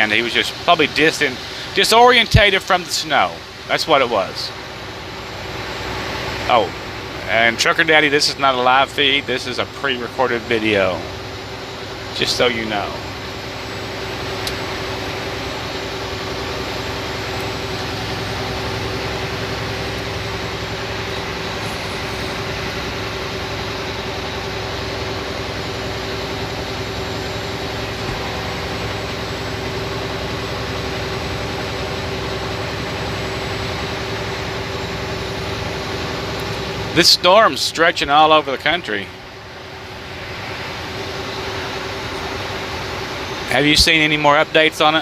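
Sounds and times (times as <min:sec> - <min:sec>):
diesel engine hum: 0:00.0 - 0:45.0.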